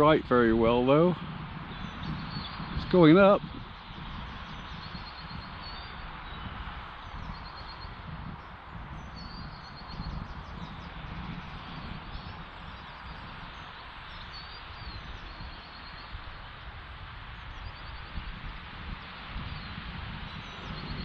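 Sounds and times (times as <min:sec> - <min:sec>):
wind buffeting microphone: 0:00.0 - 0:21.0
small birds chirping: 0:01.6 - 0:21.0.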